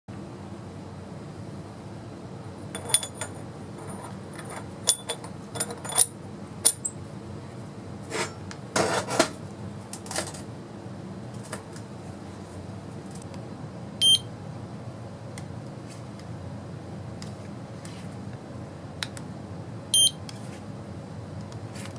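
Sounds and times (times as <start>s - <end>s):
steady low hum: 0.1s - 21.9s.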